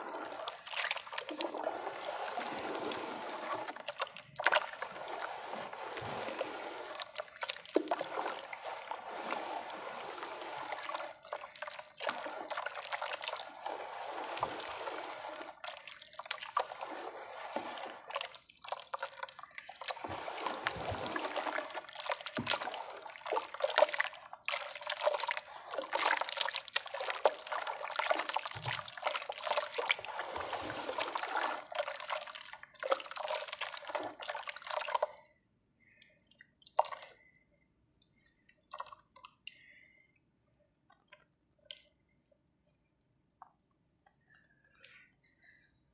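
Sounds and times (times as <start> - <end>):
hands squelching wet slurry: 0.0 - 37.4.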